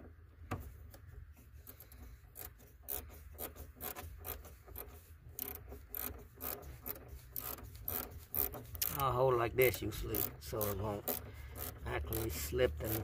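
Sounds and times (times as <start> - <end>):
wrench rasping on nut: 0.9 - 13.0.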